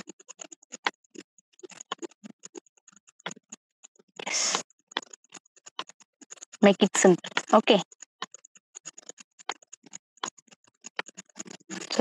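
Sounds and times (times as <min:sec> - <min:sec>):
clicking and tapping at computer: 0:00.0 - 0:12.0.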